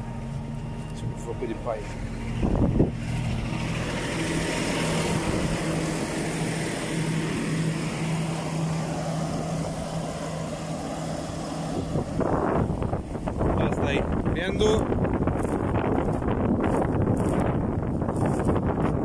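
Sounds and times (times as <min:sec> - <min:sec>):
tractor diesel engine idling: 0:00.0 - 0:18.8.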